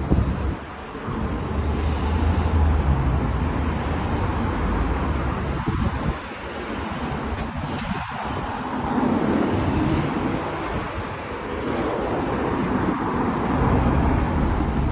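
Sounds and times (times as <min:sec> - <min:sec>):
wind buffeting microphone: 0:00.0 - 0:01.7, 0:02.7 - 0:14.9
road traffic passing: 0:00.0 - 0:14.9.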